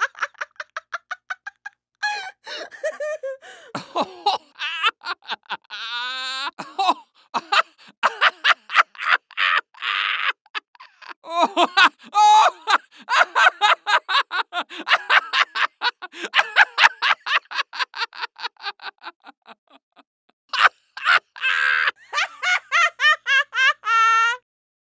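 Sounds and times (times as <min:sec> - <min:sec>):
man laughing crazily: 0:00.0 - 0:24.4.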